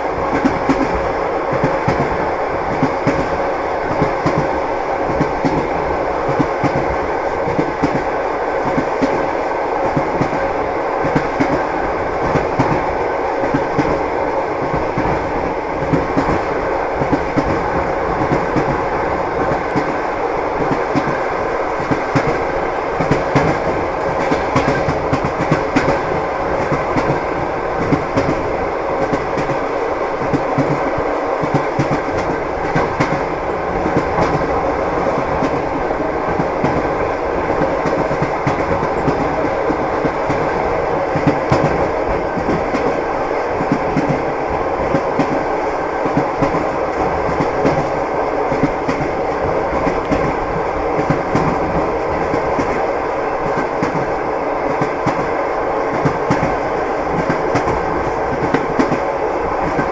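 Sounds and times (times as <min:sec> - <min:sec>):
train rolling rumble: 0:00.0 - 0:59.9
train wheels clattering: 0:00.0 - 0:59.9.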